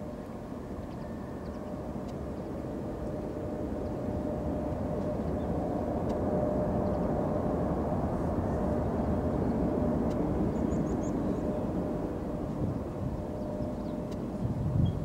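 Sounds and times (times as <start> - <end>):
faint jet whine: 0.0 - 15.0
jet engines rumbling: 0.0 - 15.0.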